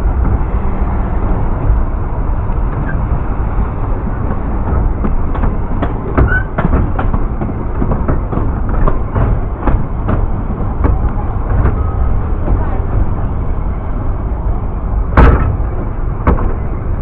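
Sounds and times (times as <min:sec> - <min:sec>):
train rumbling on track: 0:00.0 - 0:17.0
train wheels clicking: 0:00.0 - 0:17.0.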